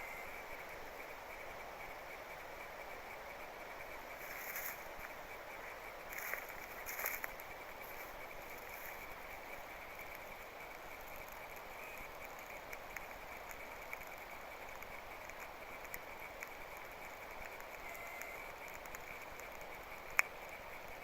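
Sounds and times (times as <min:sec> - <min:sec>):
campfire twigs burning with hiss: 0:00.1 - 0:21.0.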